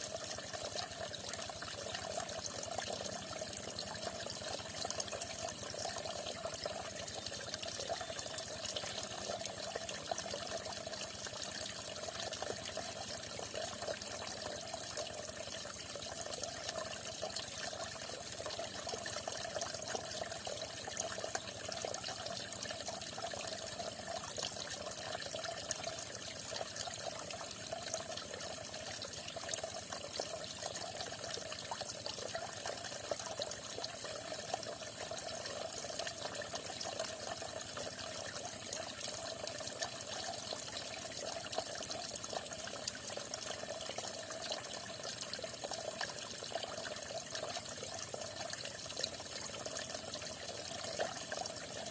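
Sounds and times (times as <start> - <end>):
water gurgling: 0.0 - 51.9.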